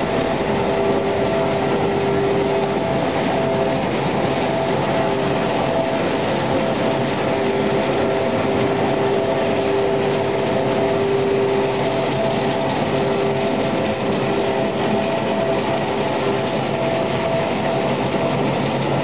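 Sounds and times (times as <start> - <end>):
constant humming tones: 0.0 - 19.0
steady machinery noise: 0.0 - 19.0.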